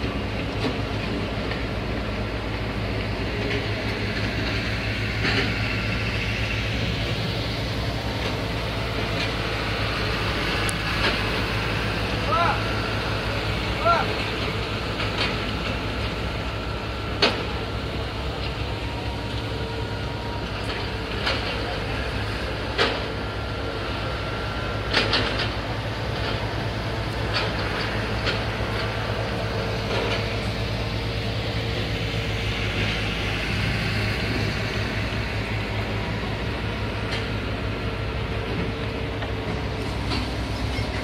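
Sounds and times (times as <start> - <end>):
road paving machinery engine drone: 0.0 - 41.0.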